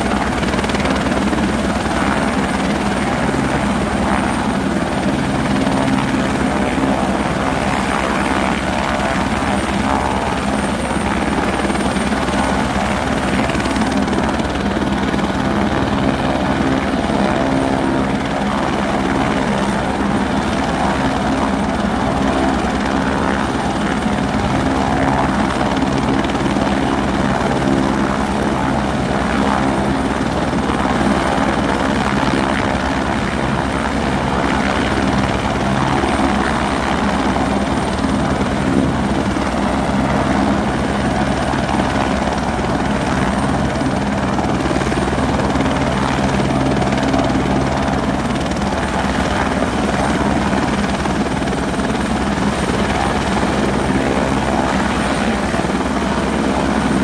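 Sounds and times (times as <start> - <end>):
helicopter rotor running: 0.0 - 57.0.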